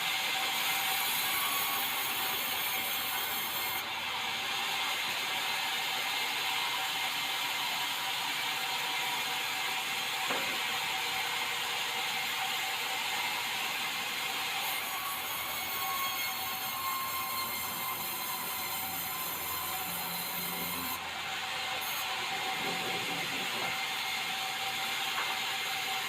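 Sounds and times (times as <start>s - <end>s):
sawmill saw cutting timber: 0.0s - 26.0s.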